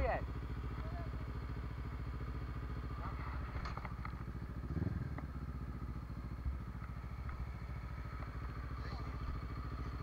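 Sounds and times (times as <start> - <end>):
off-road engine idling: 0.0 - 10.0.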